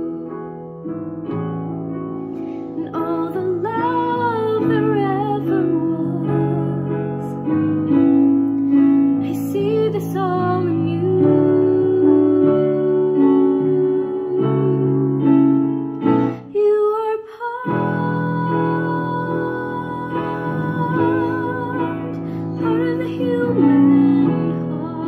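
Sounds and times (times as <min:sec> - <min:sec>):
piano chords: 0:00.0 - 0:25.0
woman singing: 0:02.7 - 0:08.0, 0:09.2 - 0:25.0.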